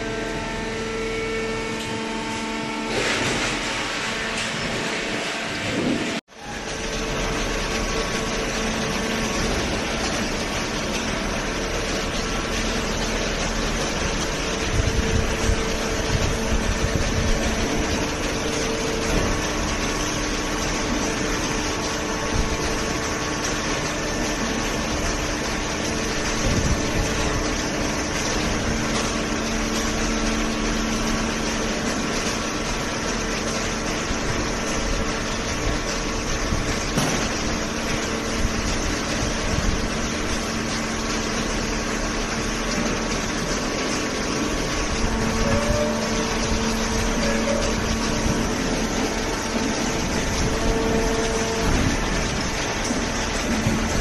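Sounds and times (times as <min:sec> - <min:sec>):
baler machine humming: 0:00.0 - 0:54.0.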